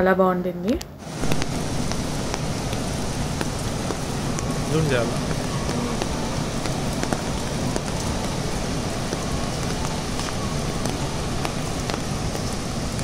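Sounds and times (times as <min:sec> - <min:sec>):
light rain drops: 0:00.8 - 0:13.0
waterfall rushing: 0:01.0 - 0:13.0.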